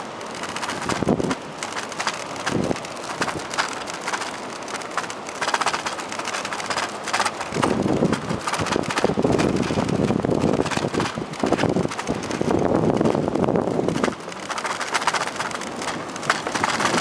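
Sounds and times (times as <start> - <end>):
bicycle rattling over wooden planks: 0.0 - 17.0
wind buffeting microphone: 0.4 - 17.0.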